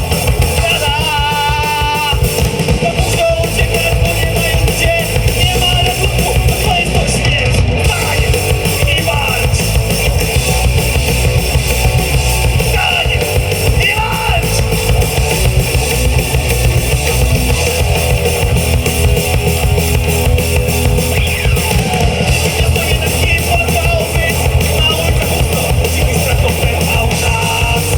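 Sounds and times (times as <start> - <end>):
live rock band playing: 0.0 - 27.9.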